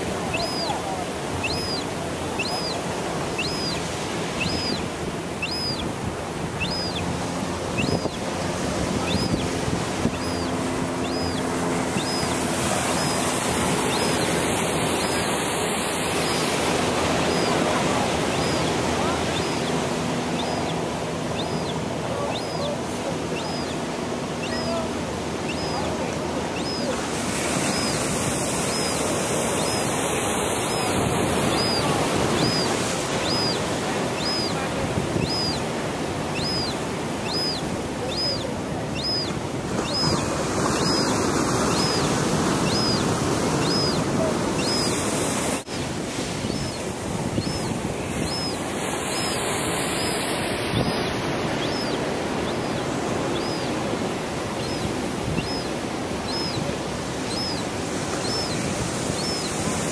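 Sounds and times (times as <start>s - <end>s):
gull chick peeping: 0.0s - 45.7s, 46.3s - 59.9s
surf: 0.0s - 59.9s
wind: 0.0s - 59.9s.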